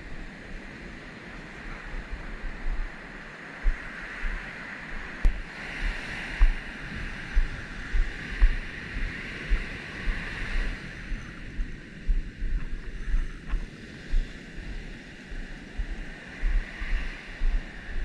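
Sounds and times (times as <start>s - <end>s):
ocean surf breaking on beach: 0.0s - 12.0s, 13.7s - 18.0s
wind buffeting microphone: 0.0s - 18.0s.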